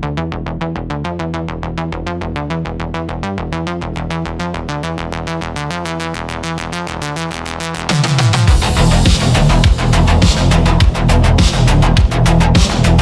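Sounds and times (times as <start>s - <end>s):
low synth bass: 0.0s - 13.0s.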